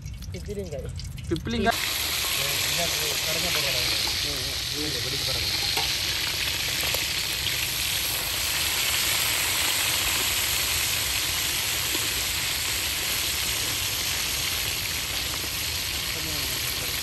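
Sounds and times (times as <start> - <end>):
food sizzling in a pot: 1.4 - 17.0.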